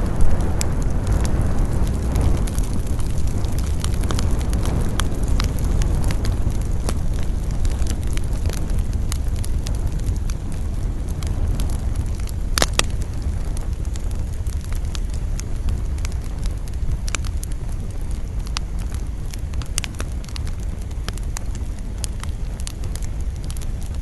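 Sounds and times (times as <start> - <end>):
campfire crackling and popping: 0.0 - 24.0
low rumble of wind: 0.0 - 24.0.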